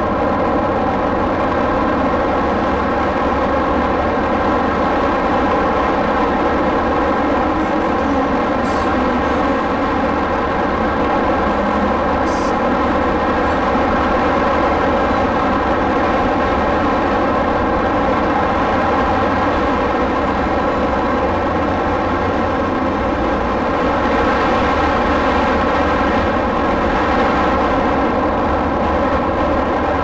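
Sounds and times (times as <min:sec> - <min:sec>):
motorcycle engine droning: 0:00.0 - 0:30.0.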